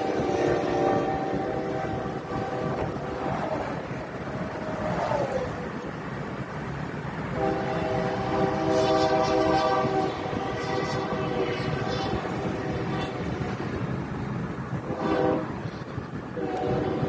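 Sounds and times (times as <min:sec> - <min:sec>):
locomotive air horn: 0:00.0 - 0:05.5, 0:07.3 - 0:13.8, 0:14.7 - 0:17.0
road noise inside car: 0:00.0 - 0:17.0.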